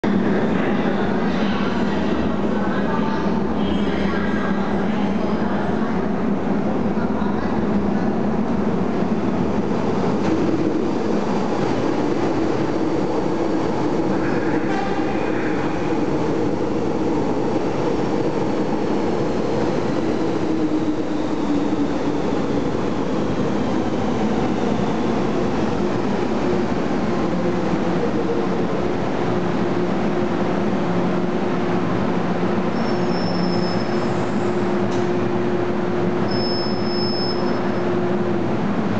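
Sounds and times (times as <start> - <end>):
train running noise: 0.1 - 38.9.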